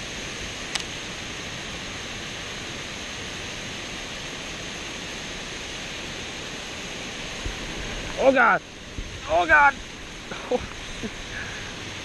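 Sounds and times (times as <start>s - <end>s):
water rushing over spillway: 0.0s - 12.0s.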